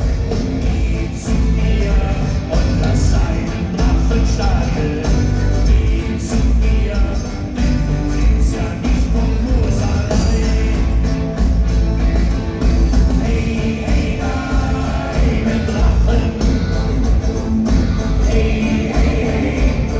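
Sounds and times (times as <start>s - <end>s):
rock band playing: 0.0s - 19.9s.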